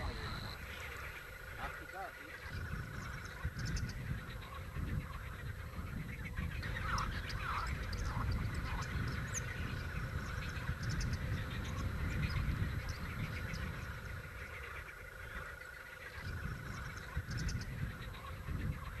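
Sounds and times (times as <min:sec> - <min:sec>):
bird calls: 0:00.0 - 0:19.0
steady low rumble: 0:00.0 - 0:19.0.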